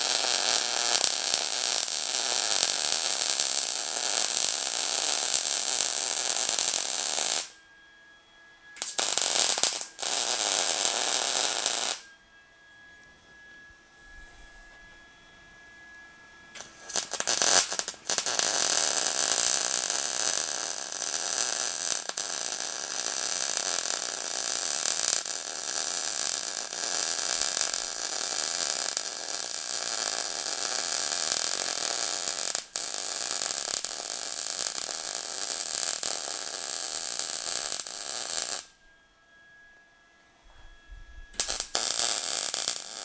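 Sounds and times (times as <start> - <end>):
welding arc hissing: 0.0 - 7.6, 8.8 - 12.0, 16.6 - 38.7, 41.4 - 43.0.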